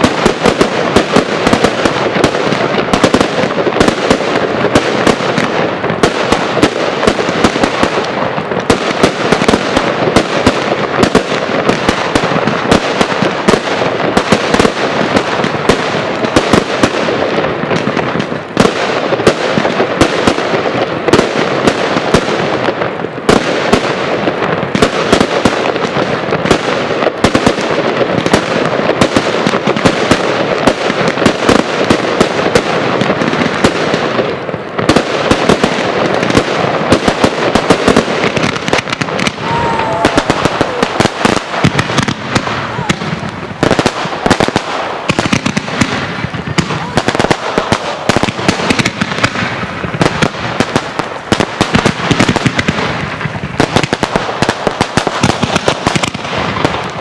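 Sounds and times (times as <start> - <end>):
fireworks barrage: 0.0 - 57.0.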